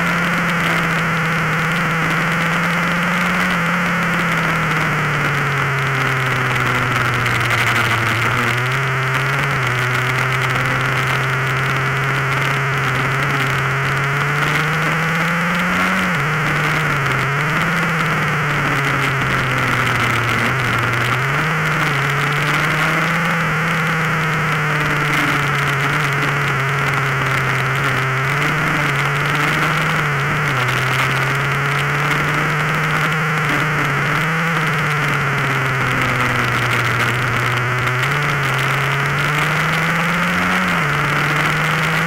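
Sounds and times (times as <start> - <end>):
two-stroke engine at high revs: 0.0 - 42.0.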